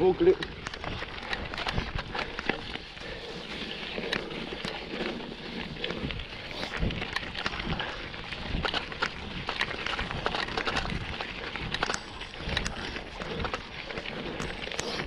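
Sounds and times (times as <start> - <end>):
bike rattling clicks and knocks: 0.0 - 15.0
bike tyres on dirt trail: 0.0 - 15.0.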